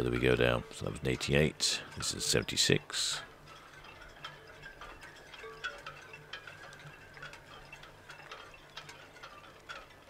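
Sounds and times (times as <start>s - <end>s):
light clicks and clinks: 0.0s - 10.0s.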